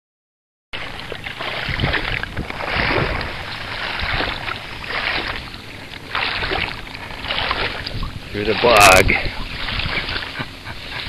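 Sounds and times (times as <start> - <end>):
water sloshing from wading: 0.8 - 11.0.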